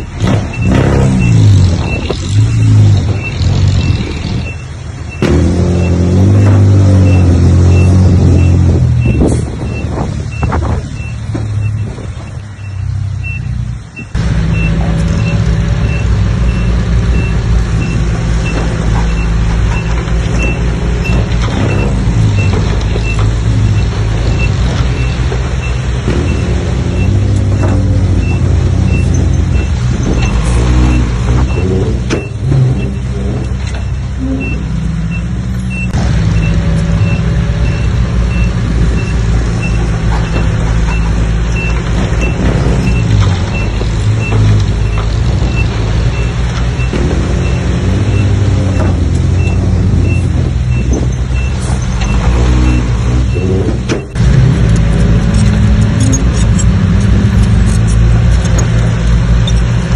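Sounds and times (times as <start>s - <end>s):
heavy diesel machinery rumbling: 0.0s - 59.9s
reversing alarm beeping: 0.4s - 54.2s.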